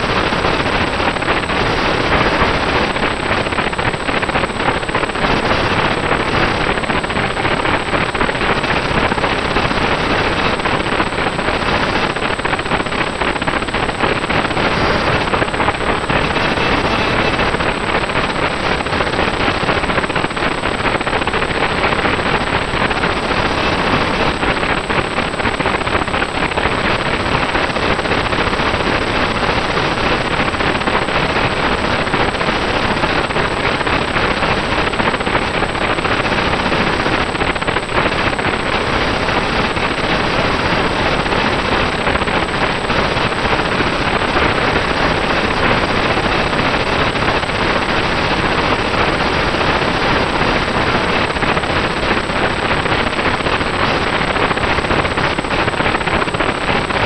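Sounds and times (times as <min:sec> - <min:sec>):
harsh loud microphone noise: 0:00.0 - 0:57.0.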